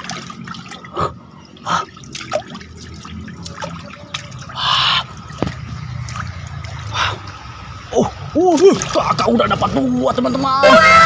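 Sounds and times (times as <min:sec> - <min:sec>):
fish splashing in water: 0:00.0 - 0:09.5
shallow water trickling: 0:00.0 - 0:10.4.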